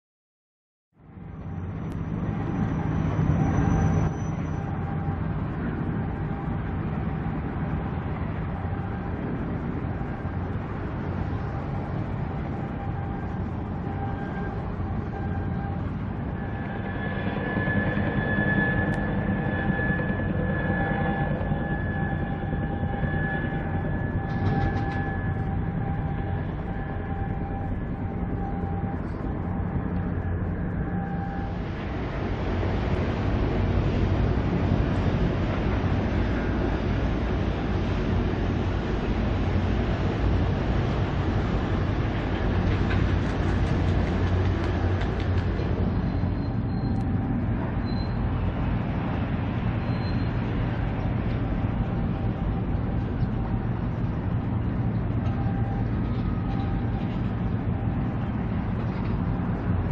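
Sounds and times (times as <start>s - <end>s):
ship engine low drone: 1.0s - 59.9s.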